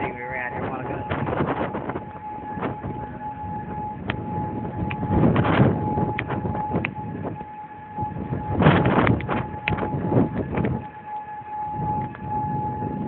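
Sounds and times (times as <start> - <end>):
tornado warning siren: 0.0 - 13.0.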